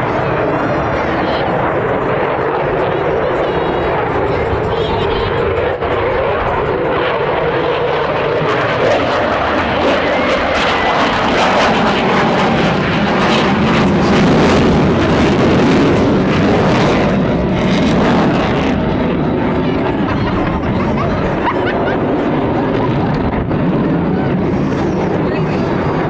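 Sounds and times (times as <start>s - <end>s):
jet engines roaring overhead: 0.0s - 26.0s.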